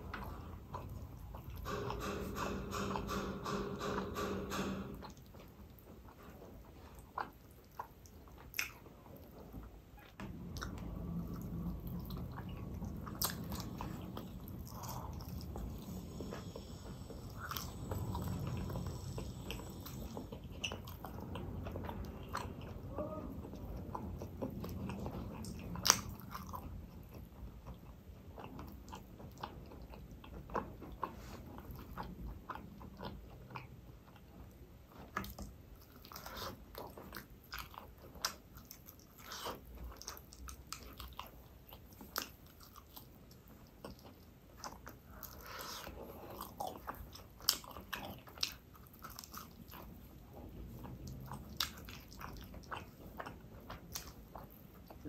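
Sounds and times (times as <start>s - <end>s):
person chewing meat: 0.0s - 1.9s, 4.8s - 55.0s.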